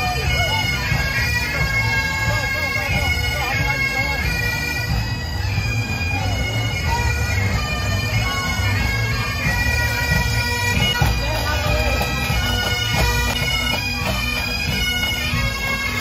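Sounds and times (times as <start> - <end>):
bagpipes playing a tune: 0.0 - 16.0.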